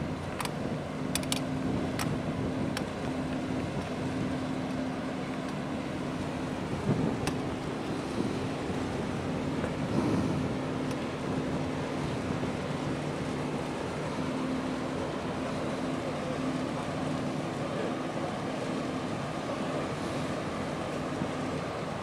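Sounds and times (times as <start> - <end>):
ship engines droning: 0.0 - 22.0
wind and water noise: 0.0 - 22.0.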